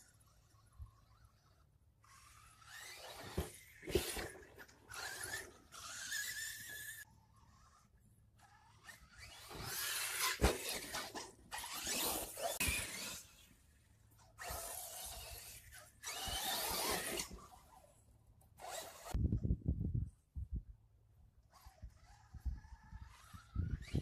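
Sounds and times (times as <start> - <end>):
toy truck driving over dirt: 0.0 - 20.3, 21.2 - 24.0.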